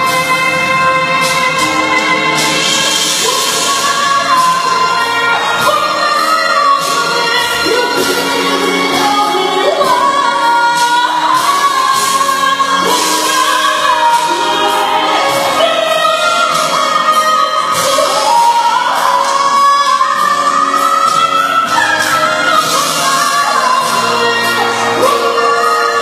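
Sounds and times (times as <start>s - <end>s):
instrumental backing: 0.0s - 26.0s.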